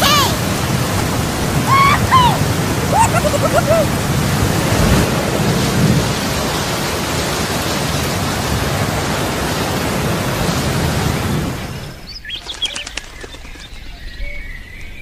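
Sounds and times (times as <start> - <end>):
steady rushing noise: 0.0 - 13.7.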